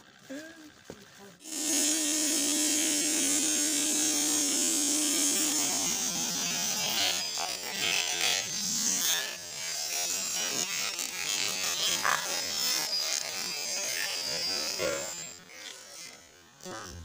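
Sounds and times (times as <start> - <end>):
blade cutting wet grass: 0.0 - 17.0
electric motor buzzing: 0.0 - 17.0.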